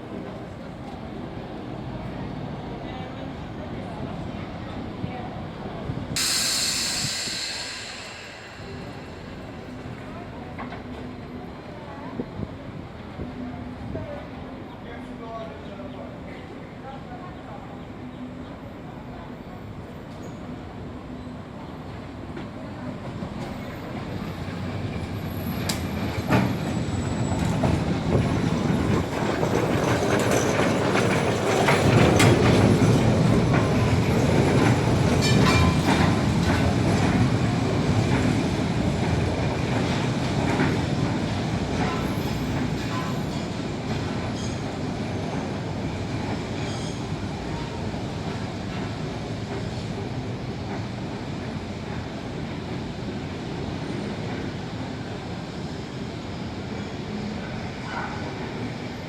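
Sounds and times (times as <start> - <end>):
funicular car rumbling on rails: 0.0 - 59.0.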